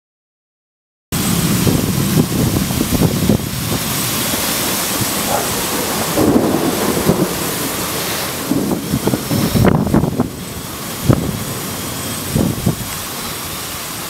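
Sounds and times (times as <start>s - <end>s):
wind: 1.1s - 14.0s
low rumble of thunder: 1.2s - 13.7s
rain: 1.2s - 14.0s.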